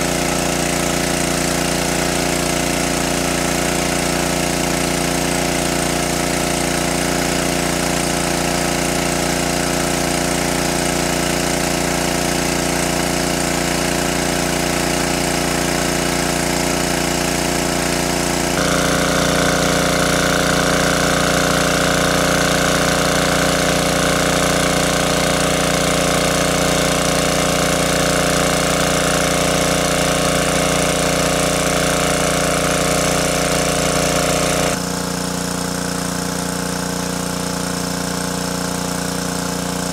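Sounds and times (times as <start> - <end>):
petrol water pump running: 0.0 - 39.9
water gushing from hose: 0.0 - 39.9.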